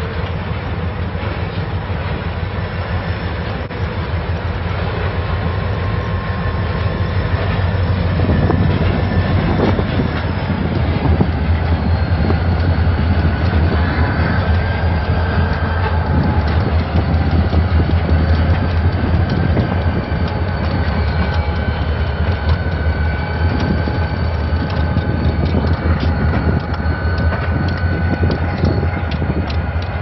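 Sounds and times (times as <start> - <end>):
freight train rumbling: 0.0 - 30.0
wheels clicking over rails: 3.6 - 30.0.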